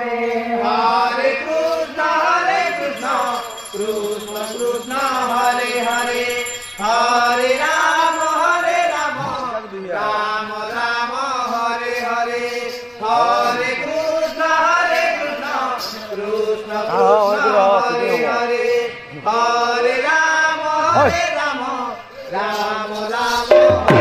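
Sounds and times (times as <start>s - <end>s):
man singing a chant: 0.0s - 23.6s.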